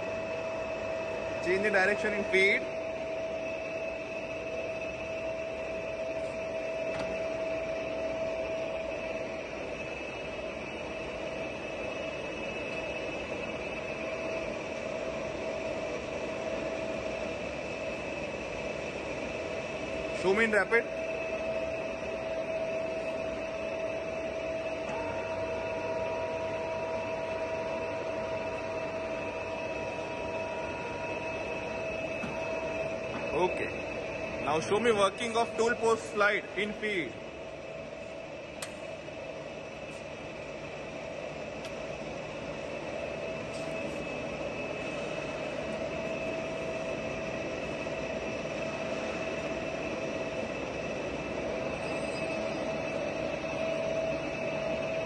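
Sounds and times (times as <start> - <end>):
lathe humming with whine: 0.0 - 55.0.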